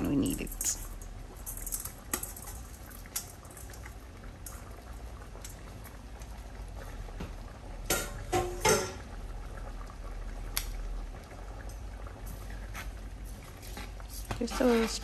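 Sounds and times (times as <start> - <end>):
pot simmering: 0.0 - 15.0.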